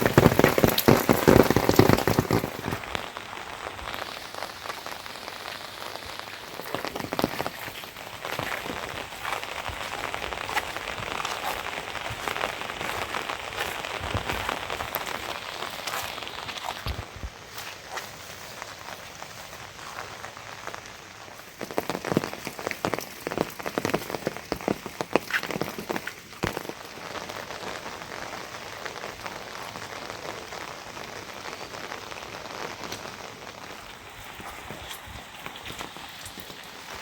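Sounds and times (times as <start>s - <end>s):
rain falling: 0.0s - 37.0s.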